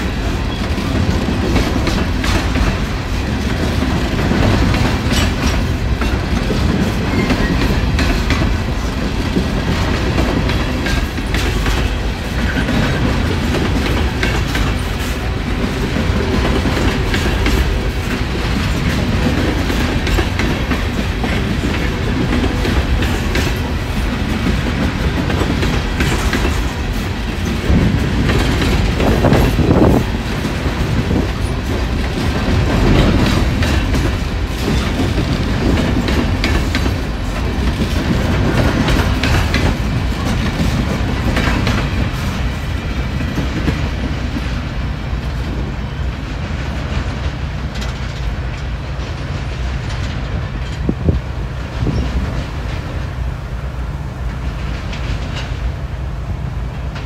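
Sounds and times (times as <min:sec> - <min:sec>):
train wheels clacking over rail joints: 0:00.0 - 0:53.2, 0:54.2 - 0:55.9.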